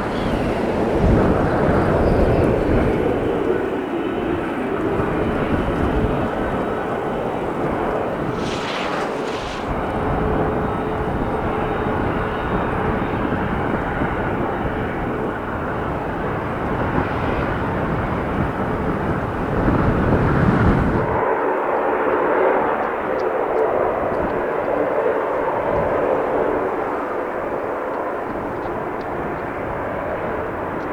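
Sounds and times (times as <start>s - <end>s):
wind rumbling on microphone: 0.0s - 21.3s, 22.8s - 30.9s
aircraft engines droning: 0.0s - 30.9s.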